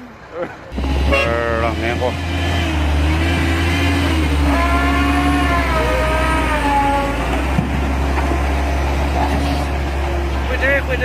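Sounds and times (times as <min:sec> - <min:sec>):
heavy truck engine rumbling: 0:00.0 - 0:11.0.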